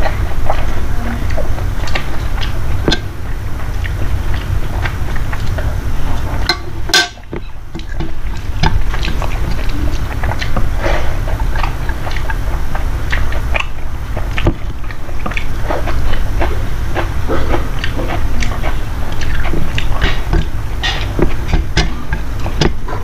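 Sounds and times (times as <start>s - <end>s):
person chewing: 0.0s - 23.0s
steady low hum: 0.0s - 23.0s.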